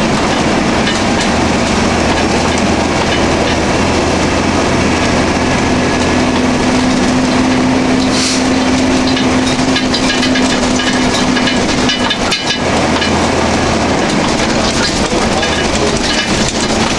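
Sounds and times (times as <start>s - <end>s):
heavy diesel engine running: 0.0s - 16.9s
rattling and cracking: 0.0s - 16.9s.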